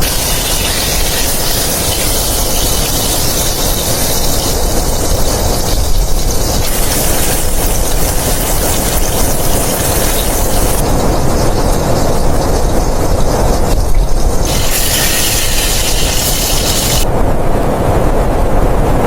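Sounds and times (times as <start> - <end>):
blizzard wind blowing: 0.0 - 19.0.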